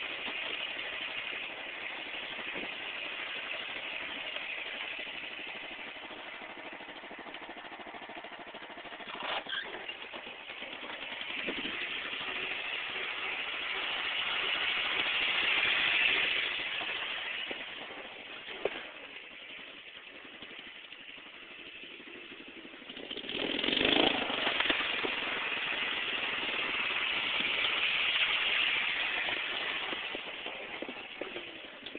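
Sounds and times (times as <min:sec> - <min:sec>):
riding lawn mower engine running: 0:00.0 - 0:31.9.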